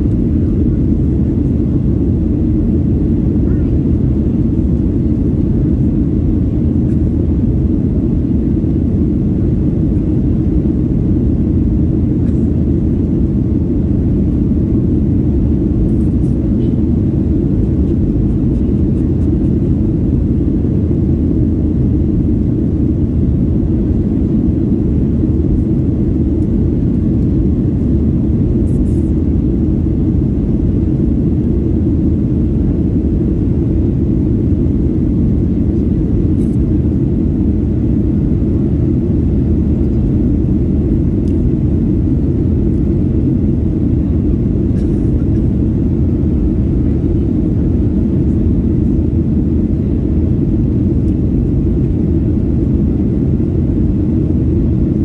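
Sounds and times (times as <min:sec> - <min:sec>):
jet airliner cabin rumble: 0:00.0 - 0:55.0.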